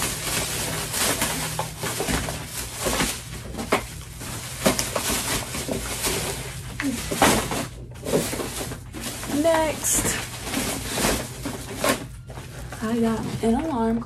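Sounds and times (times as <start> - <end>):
bags and packaging crinkling: 0.0 - 14.0.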